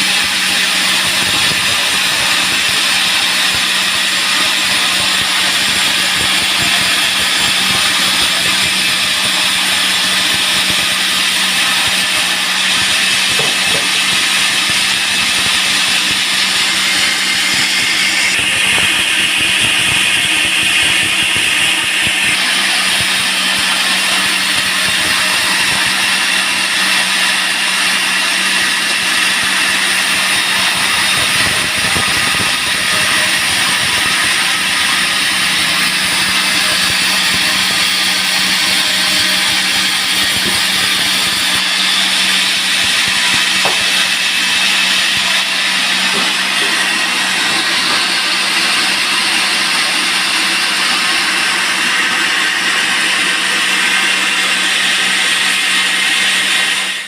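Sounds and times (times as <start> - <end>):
band saw sawing a log: 0.0 - 57.0.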